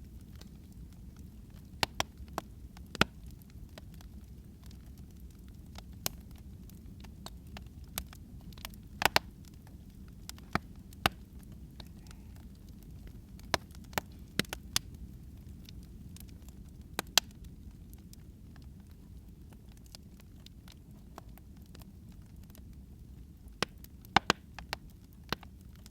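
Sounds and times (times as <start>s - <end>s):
low steady background noise: 0.0s - 25.9s
wood fire crackling: 0.0s - 25.9s.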